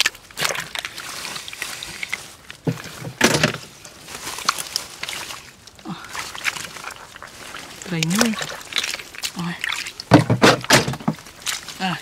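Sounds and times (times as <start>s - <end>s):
hands rustling in wet grass and mud: 0.0s - 12.0s.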